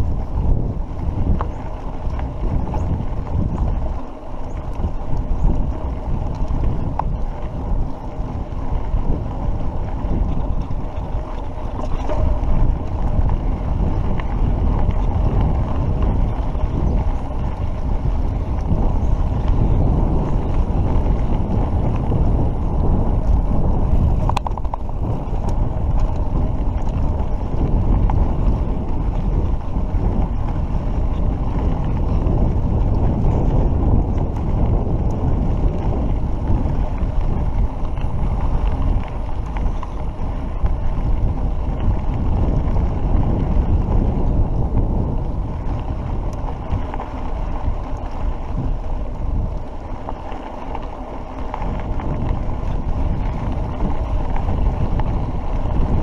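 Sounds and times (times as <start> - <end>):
bike rattling over dirt road: 0.0 - 56.0
wind buffeting microphone: 0.0 - 56.0.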